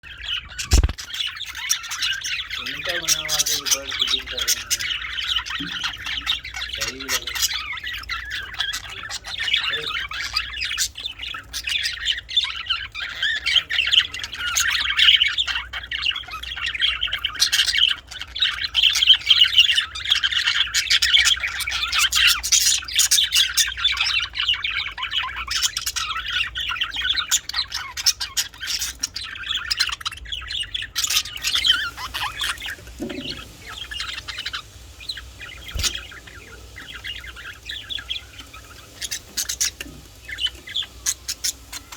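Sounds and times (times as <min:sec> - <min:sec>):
budgerigars chattering: 0:00.0 - 0:41.9.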